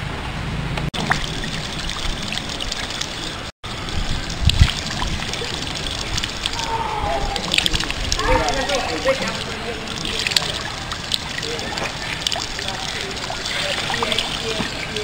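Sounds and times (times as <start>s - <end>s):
water running from a tap: 1.0s - 15.0s.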